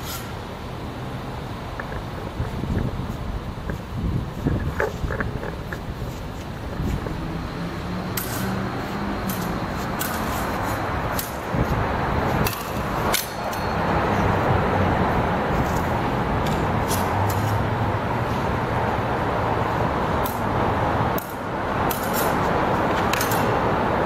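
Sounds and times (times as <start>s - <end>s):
distant traffic rumble: 0.0s - 24.0s.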